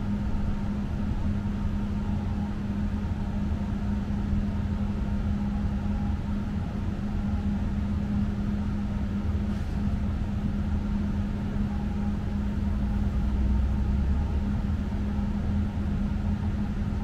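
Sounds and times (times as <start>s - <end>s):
tram electric hum: 0.0s - 17.0s.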